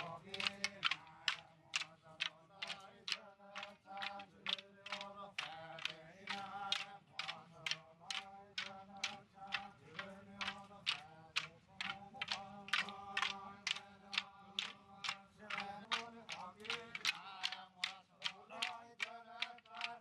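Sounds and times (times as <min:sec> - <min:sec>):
men chanting in unison: 0:00.0 - 0:20.0
wooden sticks clacking: 0:00.0 - 0:20.0.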